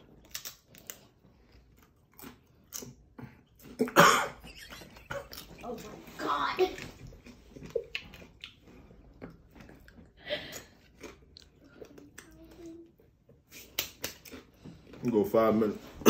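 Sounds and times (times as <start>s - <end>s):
chewing and crunching chips: 0.0s - 15.4s.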